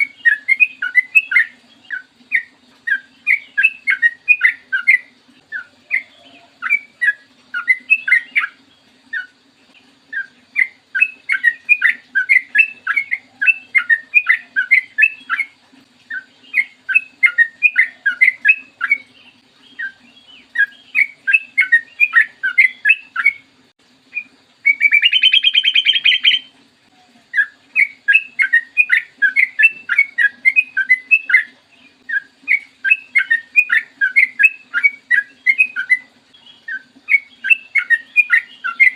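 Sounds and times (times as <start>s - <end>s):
bird singing bubbly chirps: 0.0s - 38.9s
faint steady hum: 0.0s - 38.9s.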